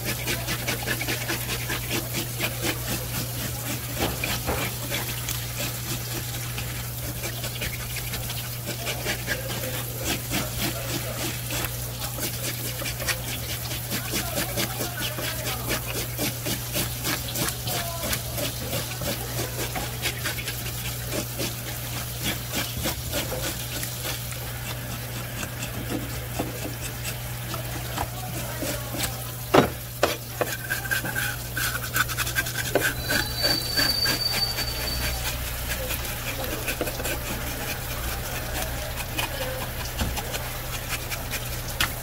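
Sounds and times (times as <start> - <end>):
knife scraping fish: 0.0 - 42.0.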